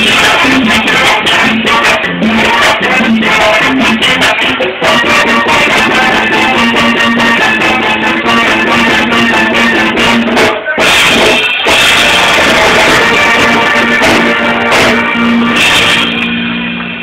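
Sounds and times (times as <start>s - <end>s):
live band music through speakers: 0.0s - 17.0s.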